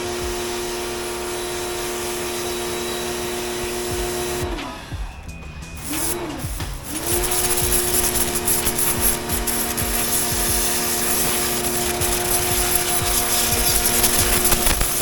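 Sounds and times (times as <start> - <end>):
water jet spraying hiss: 0.0 - 4.4, 5.8 - 15.0
pressure washer motor whirring: 0.0 - 15.0.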